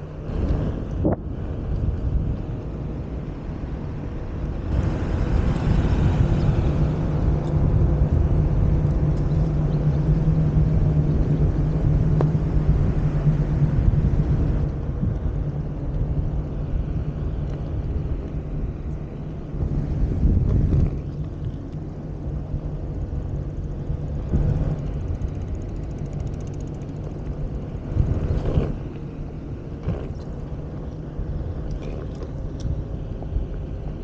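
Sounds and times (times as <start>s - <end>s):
road and air noise: 0.0s - 34.0s.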